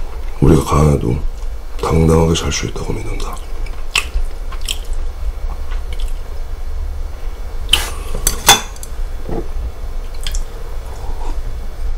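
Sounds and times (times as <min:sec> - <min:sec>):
low room hum: 0:00.0 - 0:11.9.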